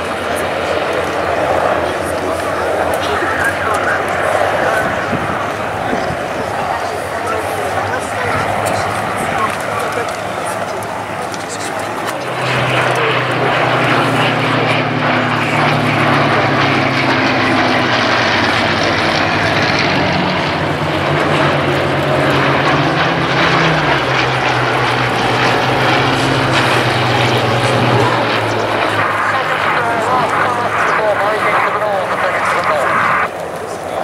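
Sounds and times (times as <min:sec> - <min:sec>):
propeller plane engines flying past: 0:00.0 - 0:34.0.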